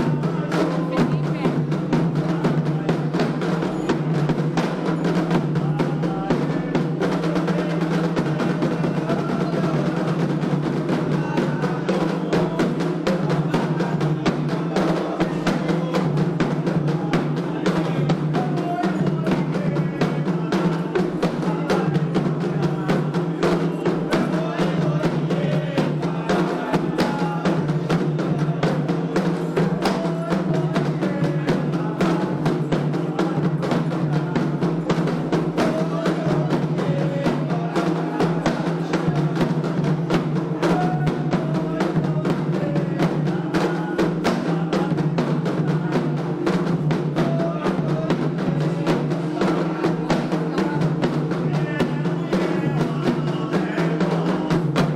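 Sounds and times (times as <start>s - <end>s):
hand drums playing fast rhythm: 0.0s - 54.9s
voices singing: 0.0s - 54.9s.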